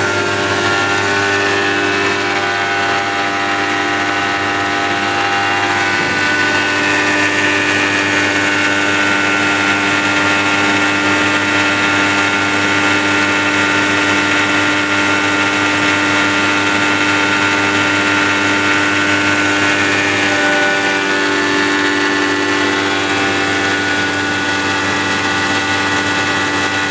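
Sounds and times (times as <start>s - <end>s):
grain grinder running: 0.0s - 26.9s.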